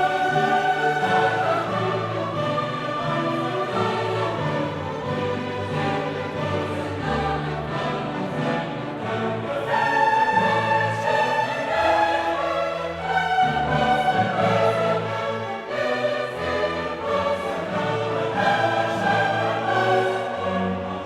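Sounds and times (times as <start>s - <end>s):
choir singing long held notes: 0.0s - 21.0s
orchestra playing: 0.0s - 21.0s.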